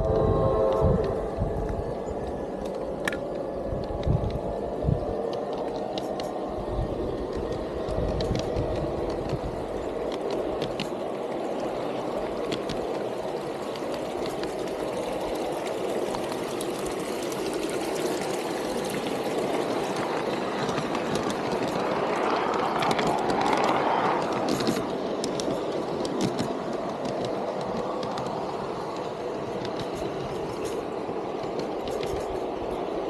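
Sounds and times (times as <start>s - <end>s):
rail clicks: 0.0s - 33.0s
train wheels rolling on rail: 0.0s - 33.0s.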